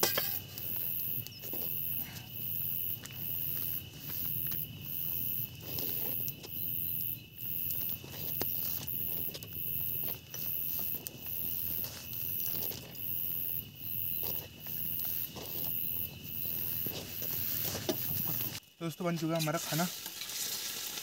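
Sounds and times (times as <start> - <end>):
continuous high-pitched trill: 0.0 - 19.0
insects chirping in rhythm: 0.0 - 21.0.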